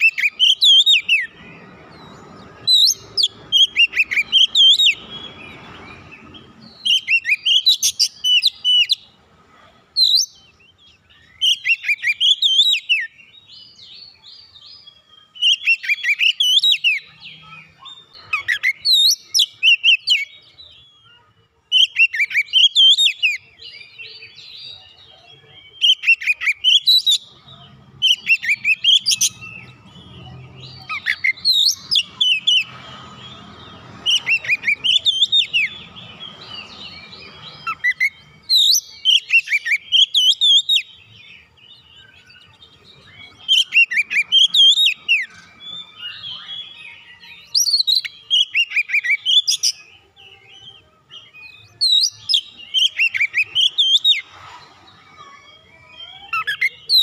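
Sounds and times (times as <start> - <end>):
magpie-robin singing: 0.0 - 9.2, 9.9 - 57.0.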